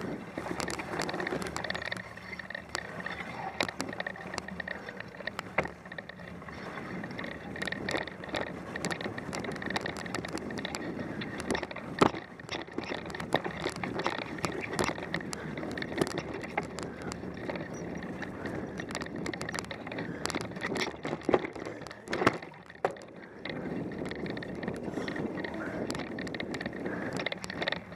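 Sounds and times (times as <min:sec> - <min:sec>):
bike clicks and rattles: 0:00.0 - 0:27.9
bike tyres on leaves and snow: 0:00.0 - 0:27.9.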